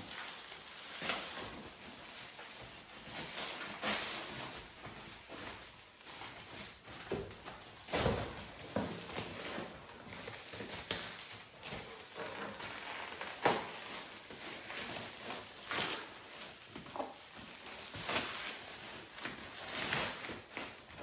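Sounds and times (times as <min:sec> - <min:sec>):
packaging rustling and tearing: 0:00.0 - 0:21.0.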